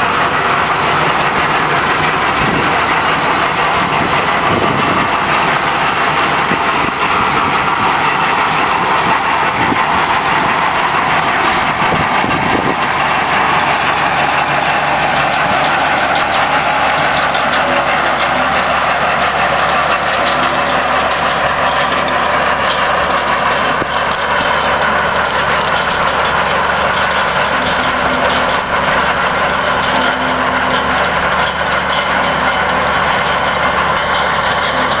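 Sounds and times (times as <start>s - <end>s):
farm machinery running: 0.0s - 35.0s.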